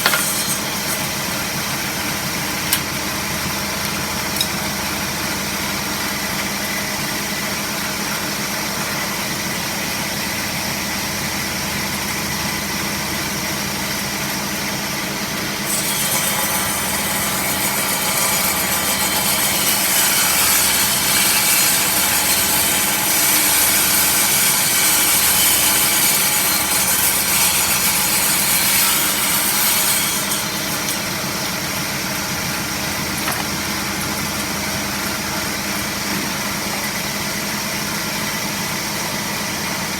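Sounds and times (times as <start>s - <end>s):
power saw running: 0.0s - 39.9s
saw cutting through wood: 0.0s - 39.9s.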